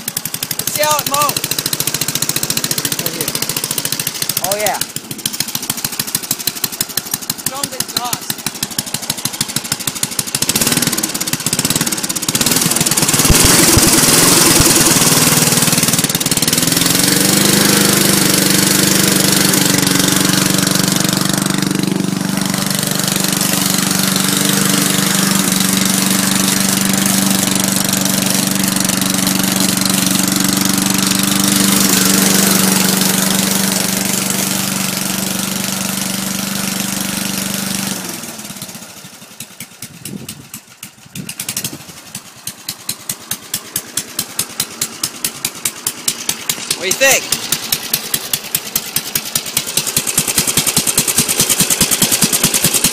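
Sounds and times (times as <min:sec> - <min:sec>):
lawn mower engine running: 0:00.0 - 0:52.9.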